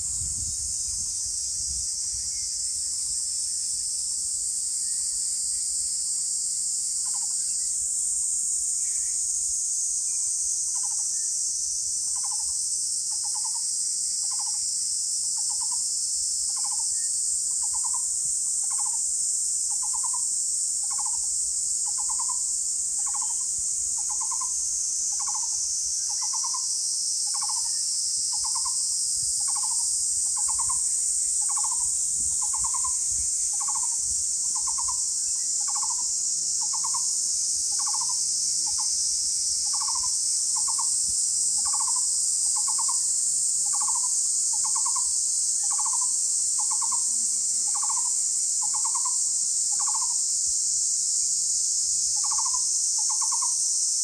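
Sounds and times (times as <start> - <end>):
night insects droning: 0.0 - 54.0.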